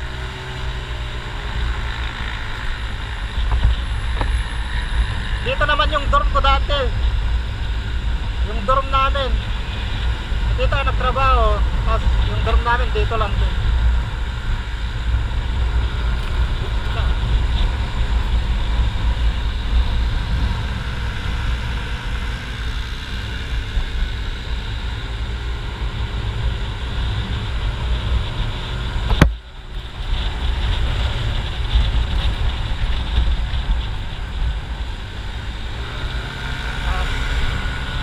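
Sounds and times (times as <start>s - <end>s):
motor scooter engine: 0.0s - 5.6s, 9.2s - 38.0s
wind rumble on microphone: 0.0s - 38.0s.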